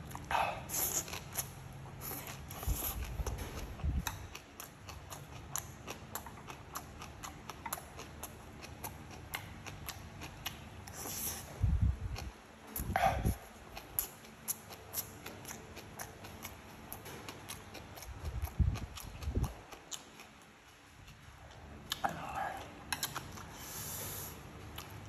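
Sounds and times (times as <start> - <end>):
chewing with wet mouth clicks: 0.0 - 25.0.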